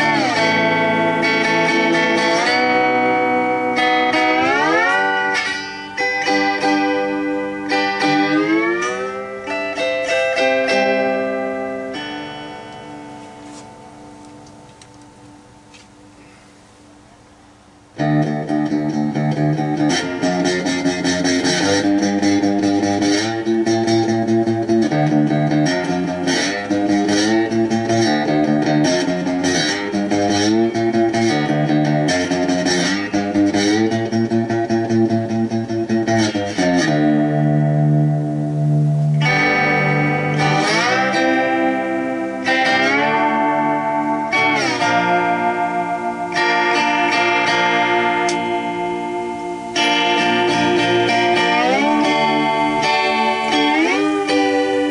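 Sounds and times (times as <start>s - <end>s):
plucked strings gliding in pitch: 0.0s - 15.5s, 18.0s - 54.9s.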